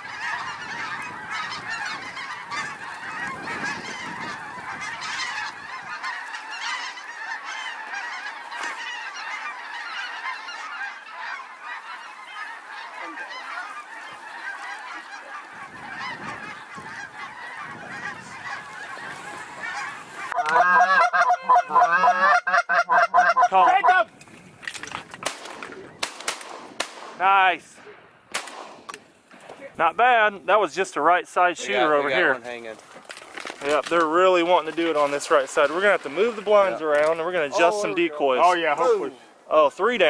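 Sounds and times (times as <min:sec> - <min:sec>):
close goose calls: 0:00.0 - 0:24.2, 0:29.5 - 0:39.9
geese chorus calling: 0:00.0 - 0:26.5, 0:29.4 - 0:40.0.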